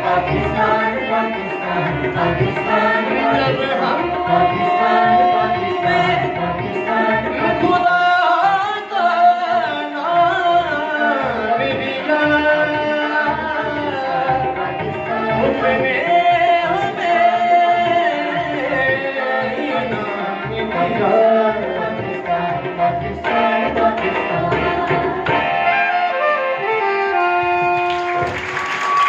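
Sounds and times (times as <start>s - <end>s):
group of voices singing: 0.0s - 27.3s
harmonium: 0.0s - 28.5s.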